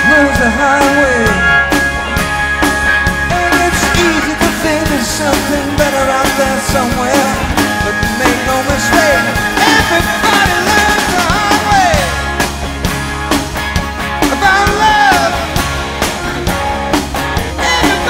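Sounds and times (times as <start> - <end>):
lead electric guitar bending: 0.0 - 18.0
live rock band playing: 0.0 - 18.0.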